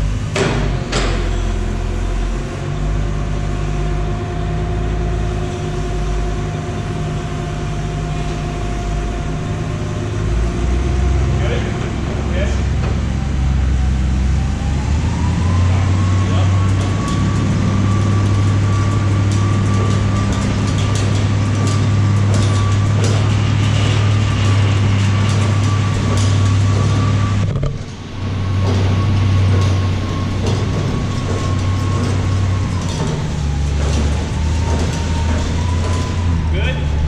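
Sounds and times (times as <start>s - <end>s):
electric chain hoist motor hum: 1.1s - 37.0s.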